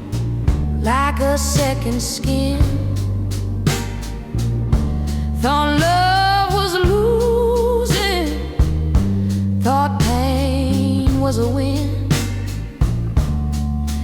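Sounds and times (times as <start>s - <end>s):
slow soul blues ballad: 0.0s - 14.0s.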